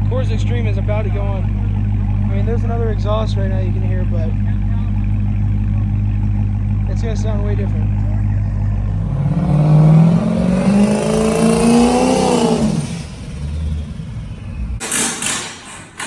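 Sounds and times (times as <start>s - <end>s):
car engine idling and revving: 0.0s - 15.3s.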